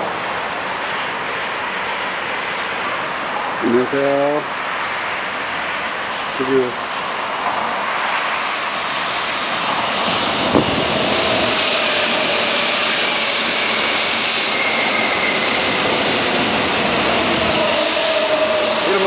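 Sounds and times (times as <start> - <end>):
electric train rushing into station: 0.0 - 19.0
high whine of train: 0.0 - 19.0.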